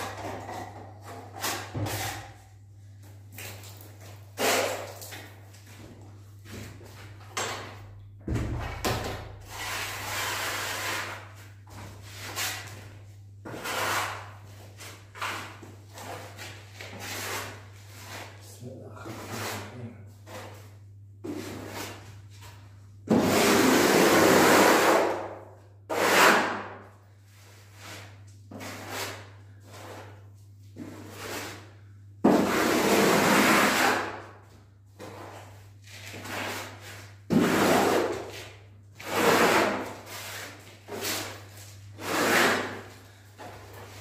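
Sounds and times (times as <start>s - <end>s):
plastering tool scraping wall: 0.0s - 2.5s, 3.4s - 5.4s, 6.5s - 44.0s.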